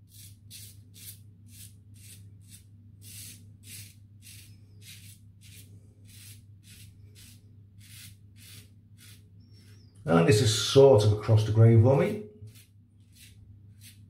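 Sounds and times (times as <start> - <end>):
razor scraping stubble: 0.0 - 9.9, 12.4 - 14.0
steady low hum: 0.0 - 14.0.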